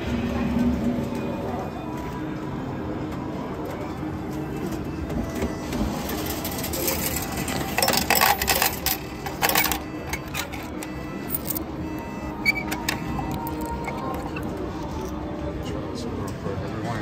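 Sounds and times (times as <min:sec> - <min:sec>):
casino background noise: 0:00.0 - 0:17.0
ticket mechanism clicking whir: 0:00.4 - 0:15.2.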